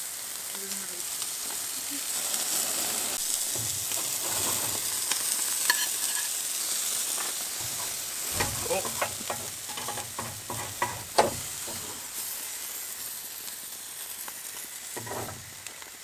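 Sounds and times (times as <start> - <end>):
burgers sizzling: 0.0 - 16.0.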